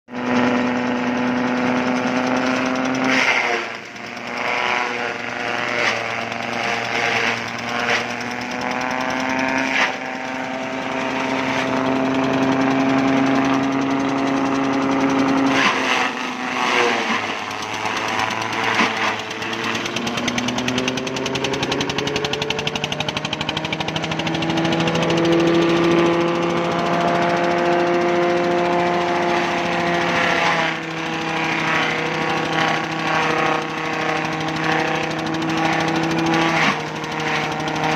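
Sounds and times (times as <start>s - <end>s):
blades cutting corn stalks: 0.1s - 37.9s
diesel engine running under load: 0.1s - 37.9s.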